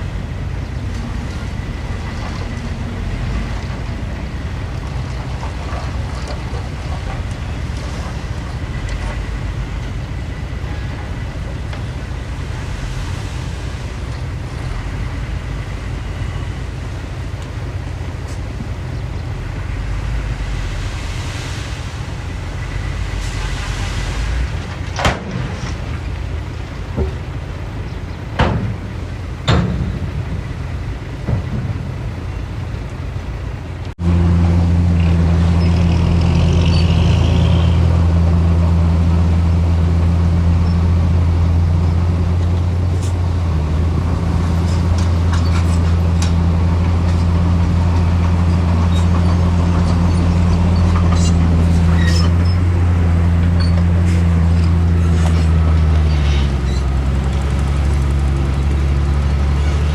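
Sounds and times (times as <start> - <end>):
heavy diesel engine droning: 0.0 - 59.9.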